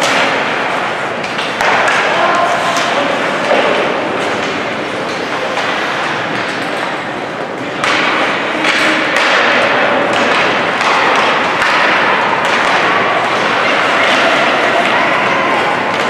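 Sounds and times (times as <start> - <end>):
hockey game and crowd noise: 0.0 - 16.0
pucks and sticks clacking: 0.0 - 16.0.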